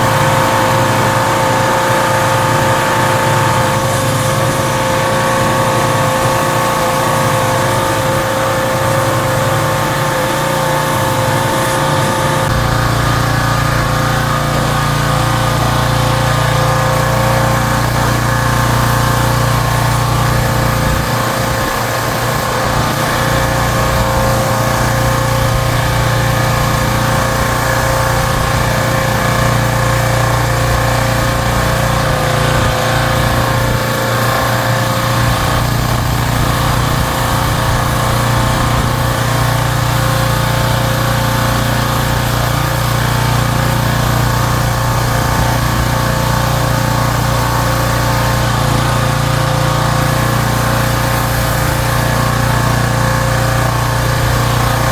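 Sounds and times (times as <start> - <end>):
pressure washer motor hum: 0.0 - 54.9
water spray hissing: 0.0 - 54.9.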